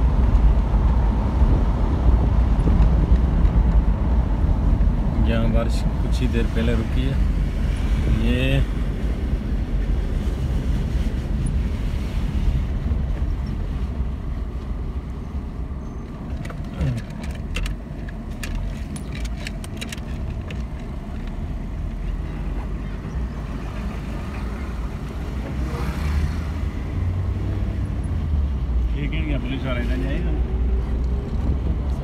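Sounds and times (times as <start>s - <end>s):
road and wind noise inside vehicle: 0.0s - 32.0s.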